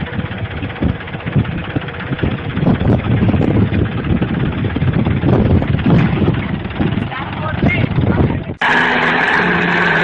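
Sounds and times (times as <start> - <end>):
wind buffeting microphone: 0.0 - 8.9
tractor engine running: 0.0 - 10.0.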